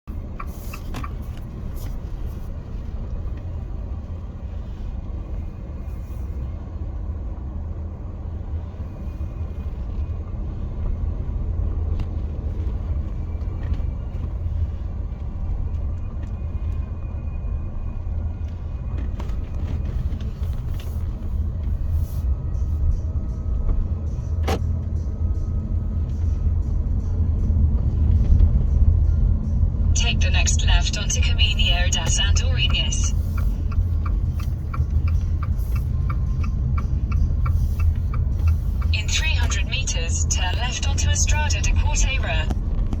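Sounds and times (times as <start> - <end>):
car cabin road and engine rumble: 0.0 - 43.0.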